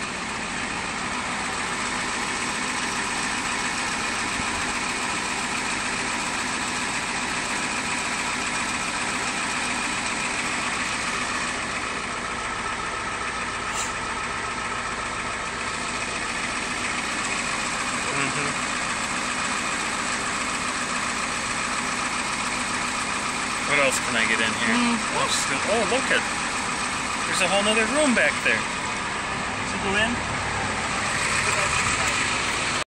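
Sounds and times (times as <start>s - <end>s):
fire truck engine idling: 0.0s - 32.9s.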